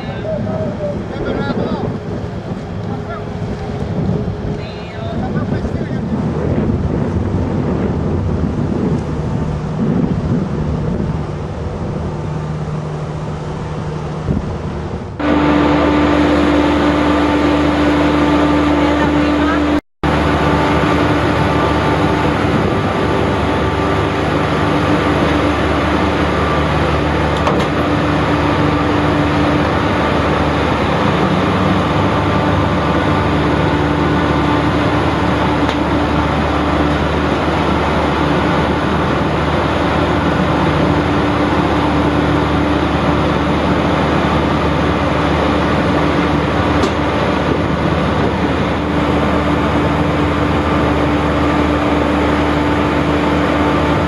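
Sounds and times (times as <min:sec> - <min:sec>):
boat diesel engines running: 0:00.0 - 0:54.0.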